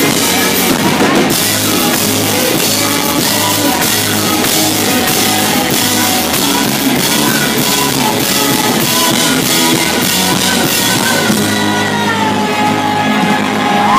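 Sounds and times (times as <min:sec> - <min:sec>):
drum kit: 0:00.0 - 0:13.9
live rock band playing: 0:00.0 - 0:13.9
woman singing into a microphone: 0:00.0 - 0:13.9.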